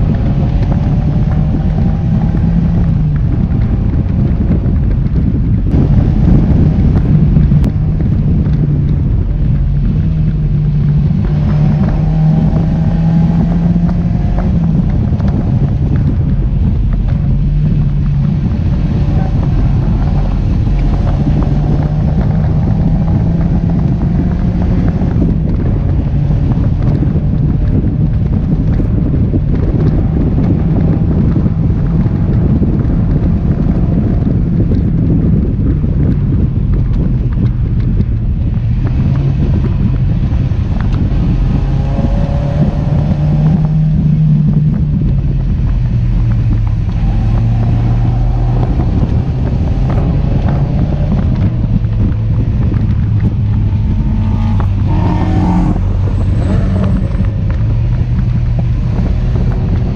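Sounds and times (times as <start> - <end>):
car engine revving: 0.0 - 59.9
wind buffeting on microphone: 0.0 - 59.9.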